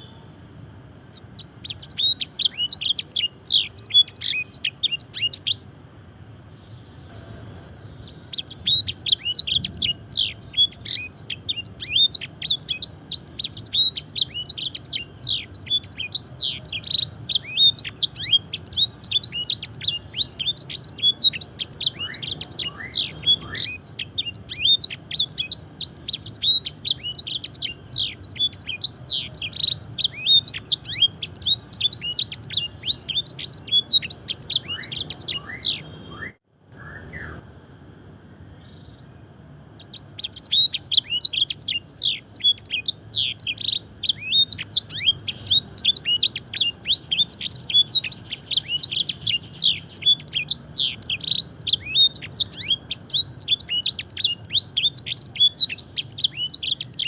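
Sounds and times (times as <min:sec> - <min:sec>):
canary singing whistled notes: 0:00.0 - 0:05.8, 0:06.4 - 0:37.4, 0:39.8 - 0:57.0.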